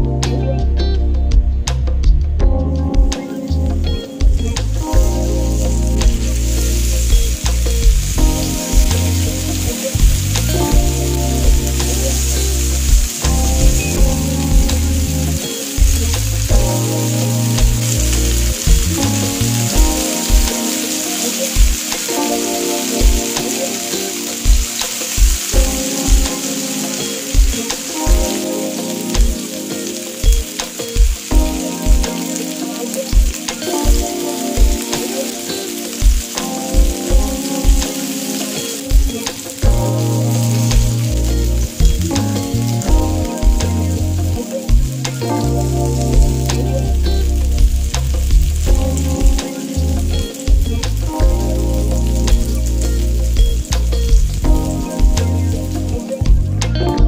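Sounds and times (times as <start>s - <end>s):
background music with deep beat: 0.0s - 57.0s
skewers sizzling on grill pan: 3.3s - 56.6s.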